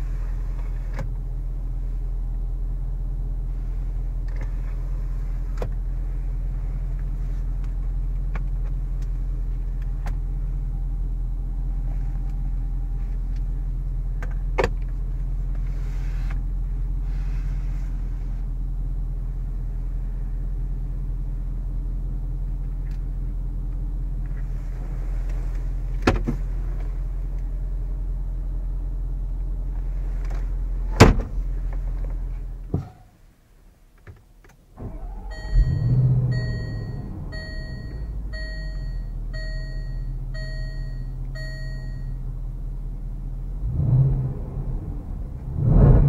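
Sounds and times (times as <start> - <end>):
low car cabin hum: 0.0 - 46.0.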